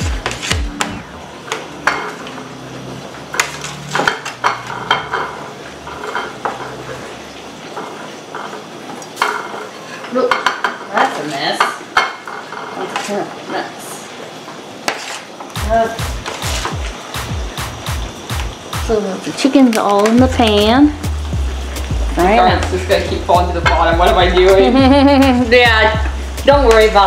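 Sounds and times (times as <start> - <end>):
oil sizzling in a pan: 0.0 - 27.0.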